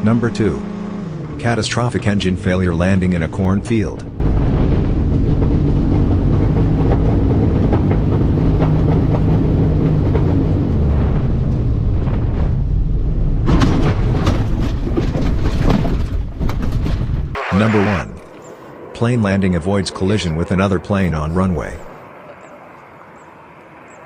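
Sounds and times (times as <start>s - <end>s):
plane cabin rumble and clatter: 1.7s - 24.0s.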